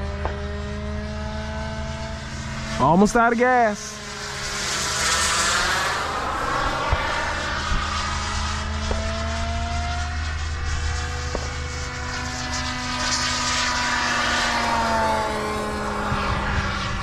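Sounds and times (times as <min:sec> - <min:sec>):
model airplane engine flying overhead: 0:00.0 - 0:17.0.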